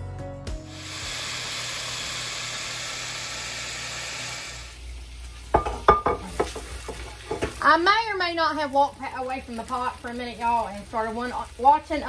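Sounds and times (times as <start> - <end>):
sausage sizzling in a skillet: 0.6 - 12.0.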